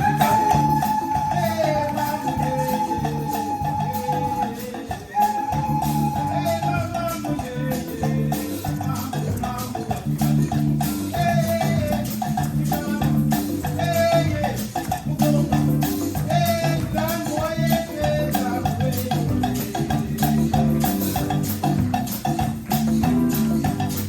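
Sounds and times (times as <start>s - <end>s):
drums and shakers: 0.0s - 24.0s
upbeat band music: 0.0s - 24.0s.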